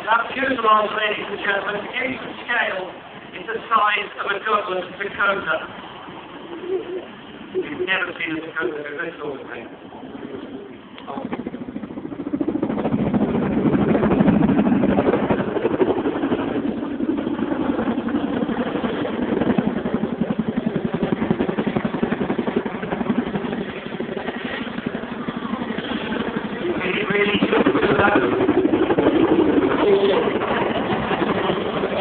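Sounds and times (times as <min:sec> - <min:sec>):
helicopter rotor chopping: 0:00.0 - 0:32.0.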